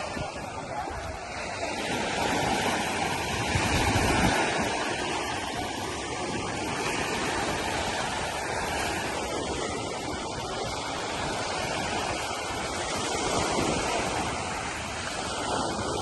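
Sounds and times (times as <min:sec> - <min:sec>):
sea surf washing on beach: 0:00.0 - 0:16.0.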